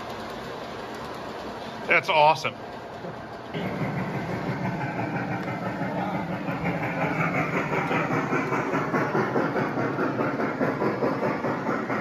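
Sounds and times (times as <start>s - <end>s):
model steam locomotive running: 0.0s - 12.0s.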